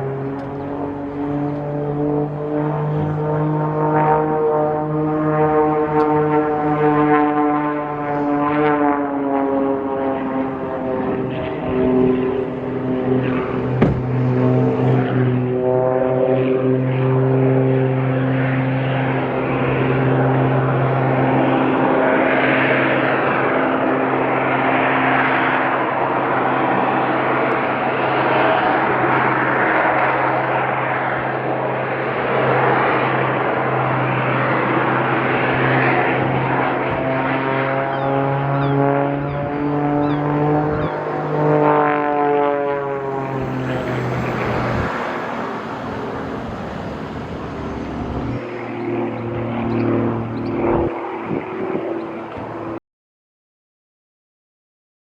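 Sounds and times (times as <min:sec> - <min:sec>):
propeller aircraft engine droning: 0:00.0 - 0:52.8.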